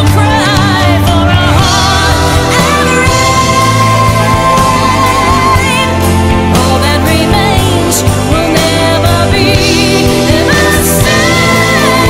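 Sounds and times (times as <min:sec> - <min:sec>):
rock ballad with band: 0:00.0 - 0:12.0.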